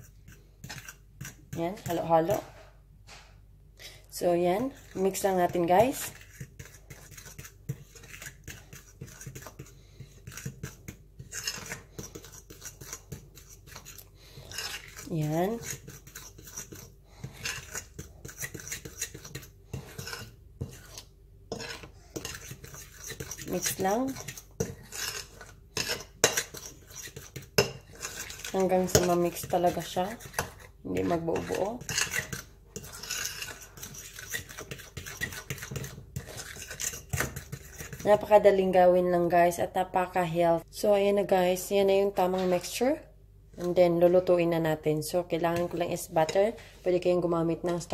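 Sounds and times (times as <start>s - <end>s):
utensil stirring batter in bowl: 0.0s - 2.9s, 4.1s - 39.6s, 43.5s - 47.9s.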